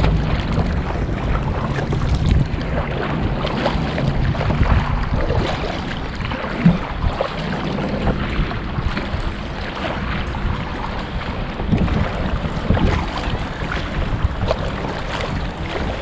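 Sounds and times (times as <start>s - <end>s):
boat engine running: 0.0s - 16.0s
water rushing: 0.0s - 16.0s
wind buffeting microphone: 0.0s - 16.0s.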